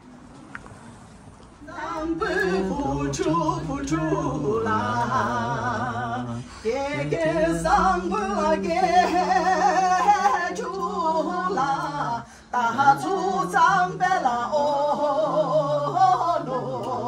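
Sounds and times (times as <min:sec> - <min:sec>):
woman singing unaccompanied: 0:01.6 - 0:17.0.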